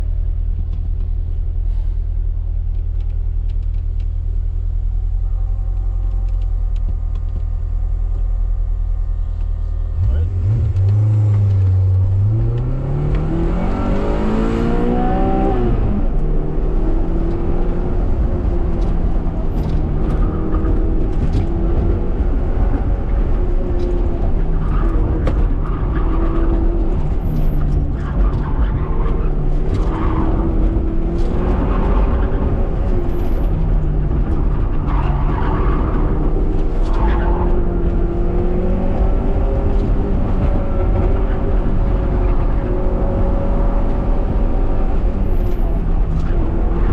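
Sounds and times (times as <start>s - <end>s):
car engine revving: 8.9s - 46.9s.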